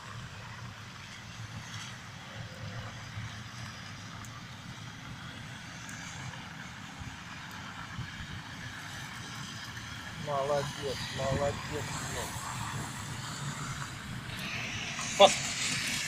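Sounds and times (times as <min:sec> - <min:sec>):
distant street traffic rumble: 0:00.0 - 0:16.0.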